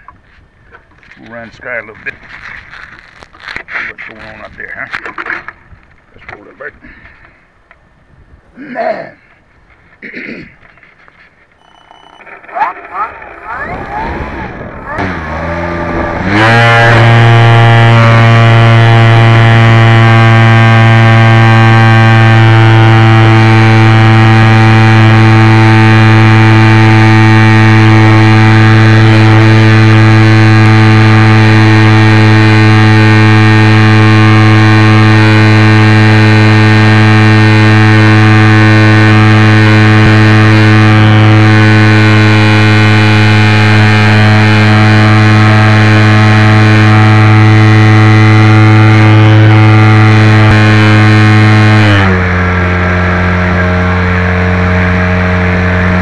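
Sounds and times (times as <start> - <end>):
model airplane motor and propeller: 0.0 - 6.7, 10.6 - 56.0.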